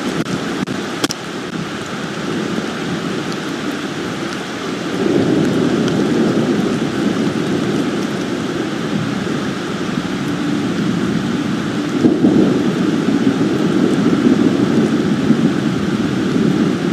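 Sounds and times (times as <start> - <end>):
raindrop ticks: 0.0 - 2.0, 3.1 - 16.6
steady rain: 0.0 - 16.9.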